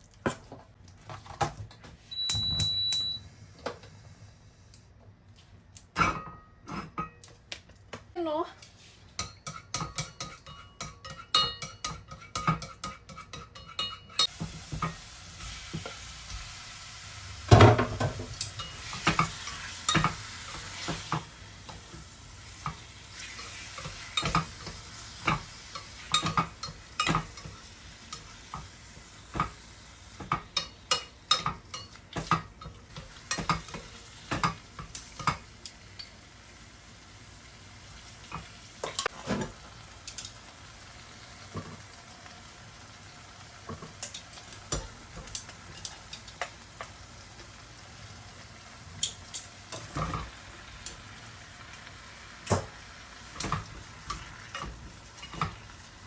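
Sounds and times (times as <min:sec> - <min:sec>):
food sizzling in a pan: 0:08.8 - 0:56.0.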